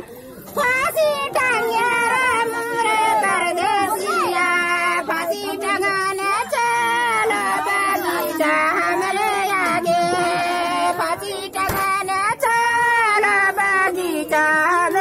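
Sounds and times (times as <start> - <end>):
man singing unaccompanied: 0.6 - 15.0.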